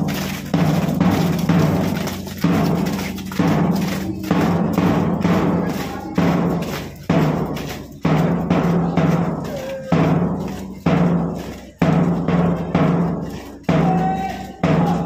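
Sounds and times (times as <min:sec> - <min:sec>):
heavy ringing drum strokes: 0:00.0 - 0:15.0.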